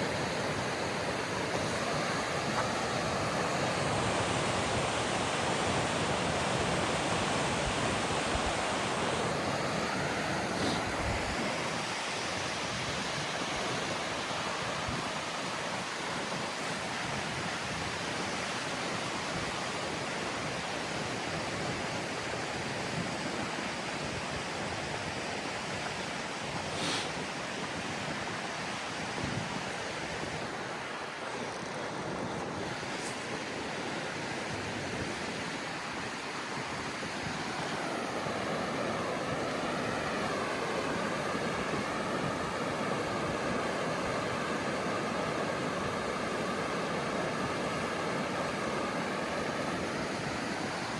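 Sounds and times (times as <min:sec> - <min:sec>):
wind buffeting microphone: 0:00.0 - 0:18.3, 0:24.1 - 0:50.9
waterfall roaring: 0:00.0 - 0:21.5, 0:29.6 - 0:50.9.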